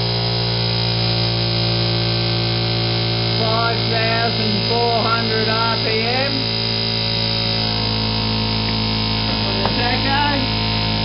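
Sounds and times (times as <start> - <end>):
sustained chord drone: 0.0 - 11.0.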